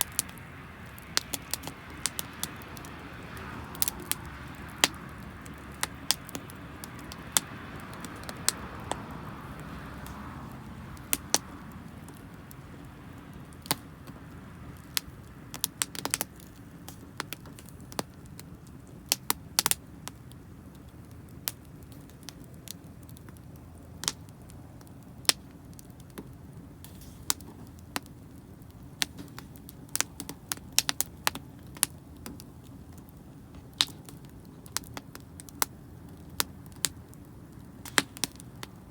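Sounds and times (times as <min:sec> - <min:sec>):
campfire crackling and popping: 0:00.0 - 0:38.9
soft hiss of fire: 0:00.0 - 0:38.9.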